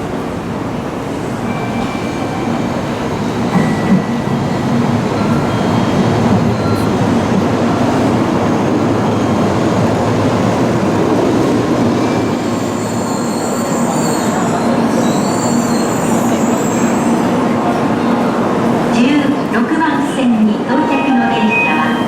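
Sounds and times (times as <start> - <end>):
train rumble and rush: 0.0 - 22.0.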